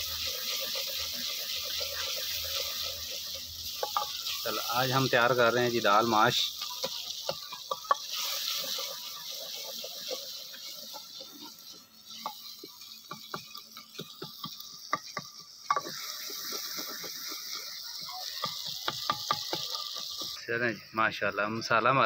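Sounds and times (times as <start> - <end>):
wooden spoon scraping a pot: 0.0 - 20.4
food sizzling in a pot: 0.0 - 22.0.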